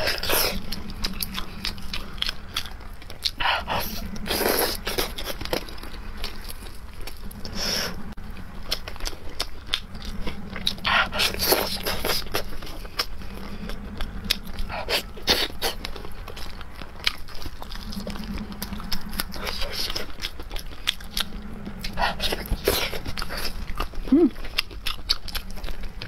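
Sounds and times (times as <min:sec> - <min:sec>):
sticky chewing clicks and smacks: 0:00.0 - 0:07.6, 0:08.2 - 0:26.0.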